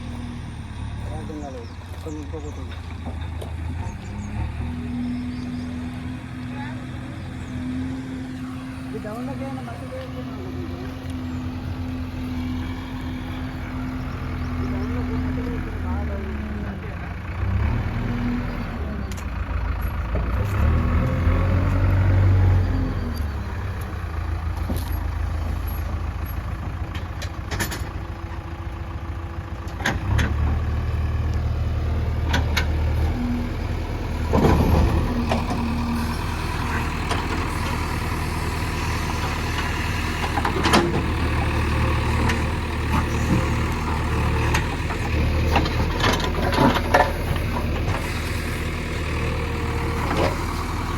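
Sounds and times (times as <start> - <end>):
diesel engine drone: 0.0 - 50.9.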